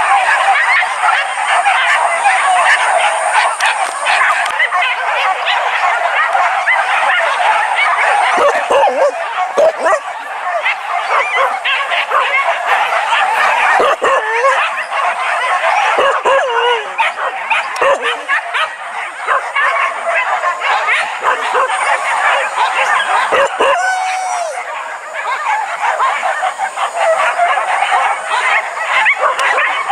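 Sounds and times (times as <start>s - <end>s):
dogs yelping and barking: 0.0s - 29.9s.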